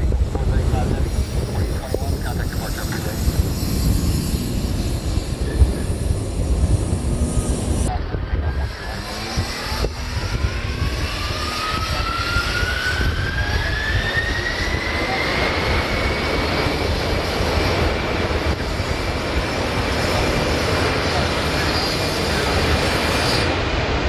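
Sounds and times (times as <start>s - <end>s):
deep steady rumble: 0.0s - 21.7s
jet engine whine rising: 0.0s - 24.0s.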